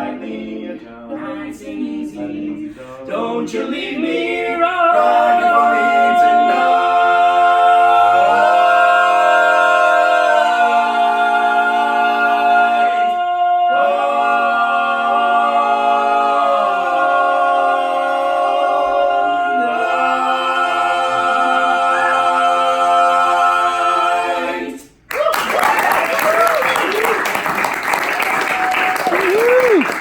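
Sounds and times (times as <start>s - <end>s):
a cappella group singing: 0.0s - 25.1s.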